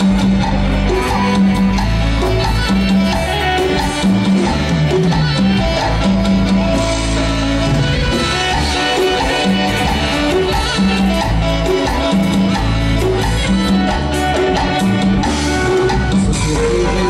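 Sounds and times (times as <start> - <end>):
live band playing latin dance music: 0.0 - 17.0
repeating bass line: 0.0 - 17.0.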